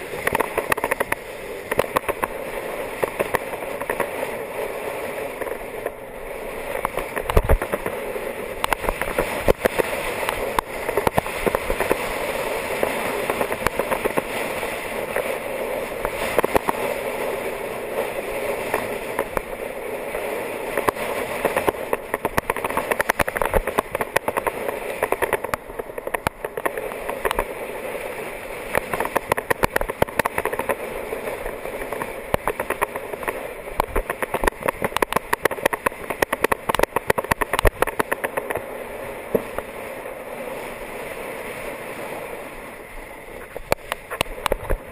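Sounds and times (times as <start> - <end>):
bike tyre noise on road: 0.0 - 44.9
wind rush: 0.0 - 44.9.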